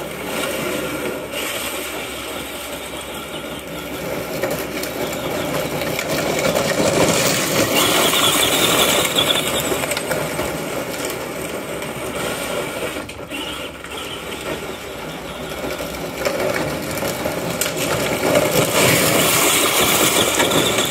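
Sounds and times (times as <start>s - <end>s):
ride-on toy tractor motors running: 0.0s - 20.9s.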